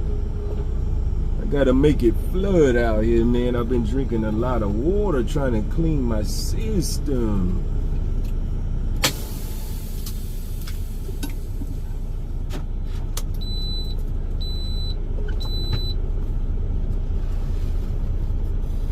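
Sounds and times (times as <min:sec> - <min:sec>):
truck engine rumbling: 0:00.0 - 0:18.9.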